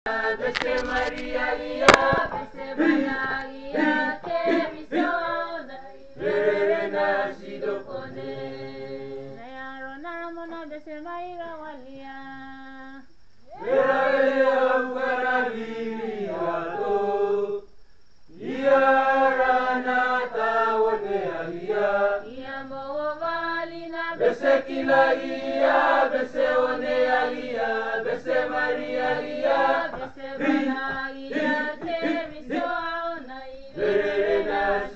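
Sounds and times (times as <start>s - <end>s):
choir singing a hymn in harmony: 0.1s - 9.4s, 13.6s - 17.7s, 18.3s - 34.9s.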